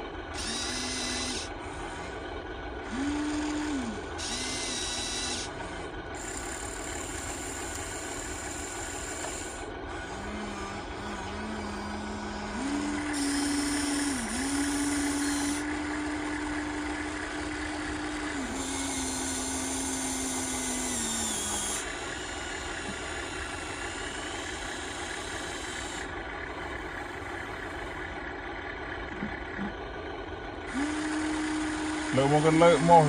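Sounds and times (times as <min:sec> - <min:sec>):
small electric motors whining: 0:00.0 - 0:28.3, 0:30.6 - 0:33.0
higher motor whines: 0:00.0 - 0:29.9, 0:30.5 - 0:33.0.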